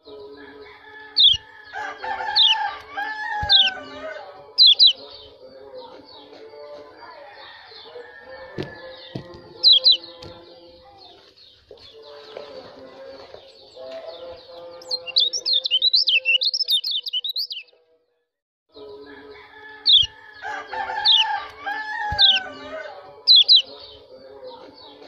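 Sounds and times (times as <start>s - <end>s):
bird chirping: 0.0s - 6.8s, 7.7s - 17.8s, 19.8s - 25.0s.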